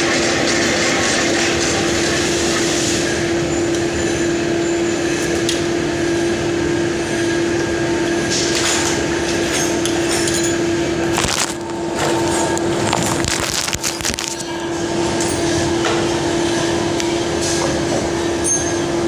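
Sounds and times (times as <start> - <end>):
machine tool humming and rattling: 0.0 - 19.0.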